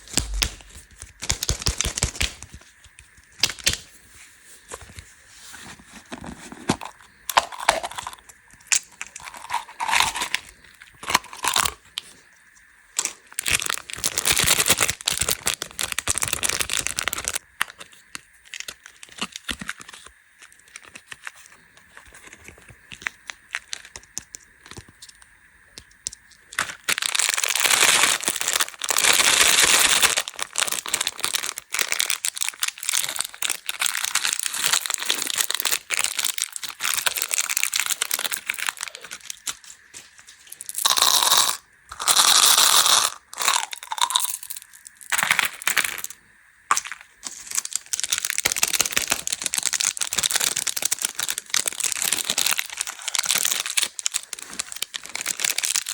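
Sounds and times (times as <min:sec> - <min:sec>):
clicks and crackles: 0:00.0 - 0:03.9, 0:06.7 - 0:55.9
plastic wrappers crinkling: 0:00.0 - 0:03.9, 0:05.6 - 0:12.1, 0:13.0 - 0:24.9, 0:26.3 - 0:55.9.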